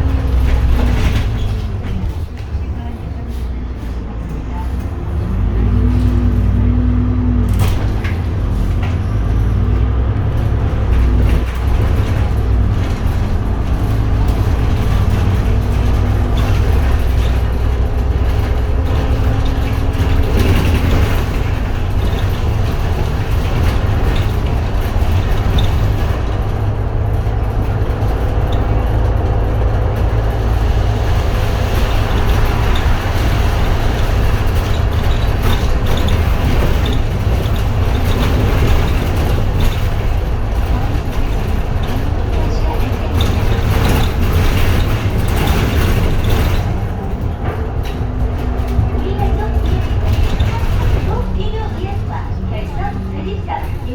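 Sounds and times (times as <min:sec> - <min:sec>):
bus engine rumble: 0:00.0 - 0:53.9
road noise: 0:00.0 - 0:53.9.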